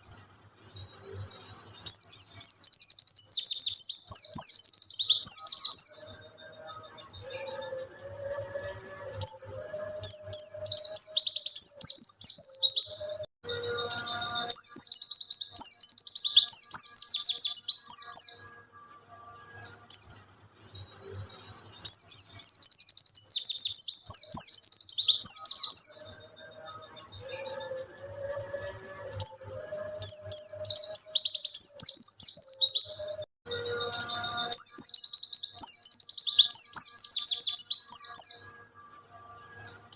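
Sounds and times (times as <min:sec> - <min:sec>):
bird warbling song: 0:00.0 - 0:38.6.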